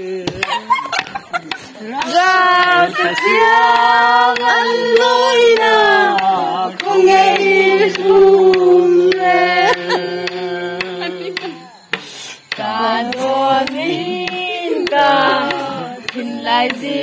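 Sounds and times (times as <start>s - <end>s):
sharp percussive taps: 3.2s - 17.0s.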